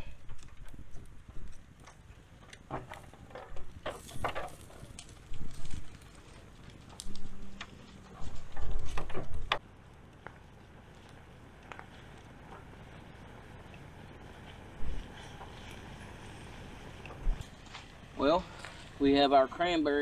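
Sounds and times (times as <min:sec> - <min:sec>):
sticks and coals knocking: 0:00.0 - 0:18.9
fire crackling: 0:00.0 - 0:20.0.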